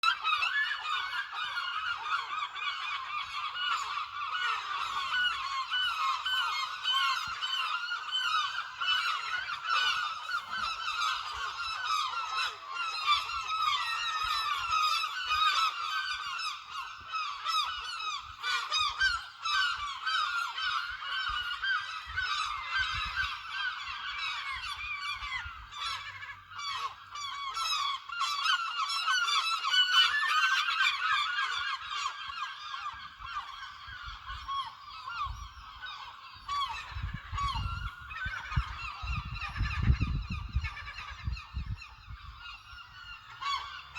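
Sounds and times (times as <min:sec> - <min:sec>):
flock of gulls calling: 0:00.0 - 0:43.9.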